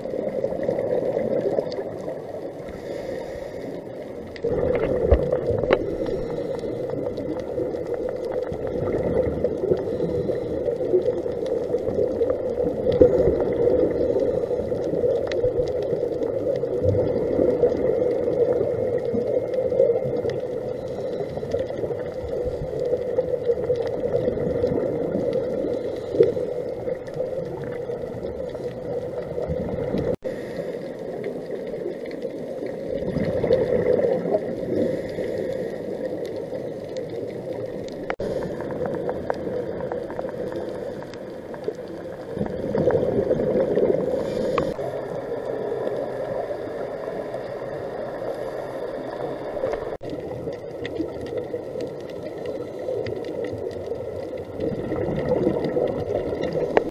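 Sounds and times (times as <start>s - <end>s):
muffled underwater rushing: 0.0s - 56.9s
regulator bubbling: 4.2s - 30.4s, 31.0s - 48.1s, 49.0s - 56.9s.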